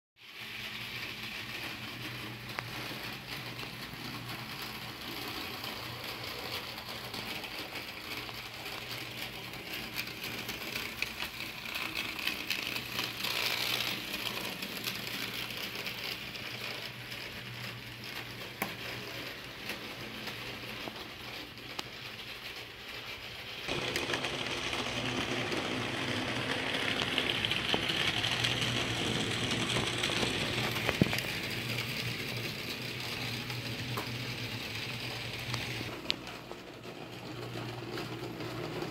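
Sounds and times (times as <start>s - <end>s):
model train motor whir: 0.2s - 38.9s
small wheels rattling on rails: 0.2s - 38.9s.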